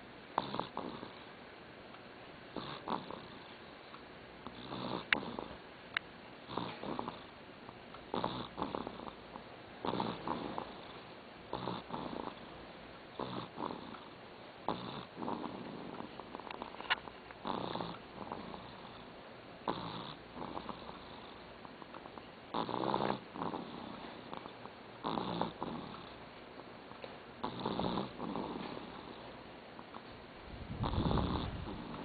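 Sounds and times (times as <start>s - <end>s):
pet snoring: 0.4s - 1.4s, 2.5s - 3.7s, 4.4s - 5.6s, 6.4s - 7.3s, 8.0s - 26.7s, 27.4s - 30.1s, 30.7s - 32.0s.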